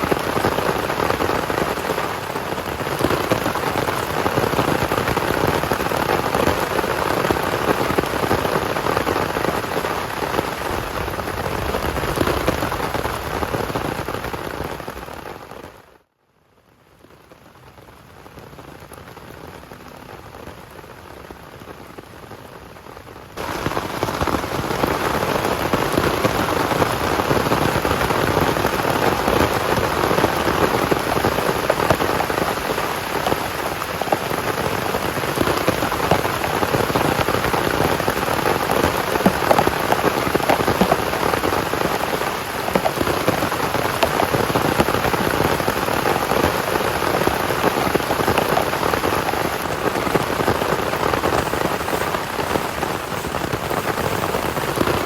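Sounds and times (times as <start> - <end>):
heavy rain pattering: 0.0 - 16.0, 16.6 - 55.0.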